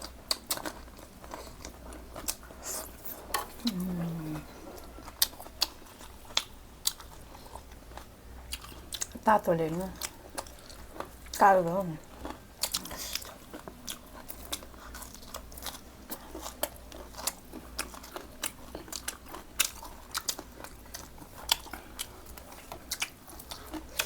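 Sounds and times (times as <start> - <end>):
person crunching food: 0.0 - 9.2, 10.0 - 11.4, 12.0 - 24.0.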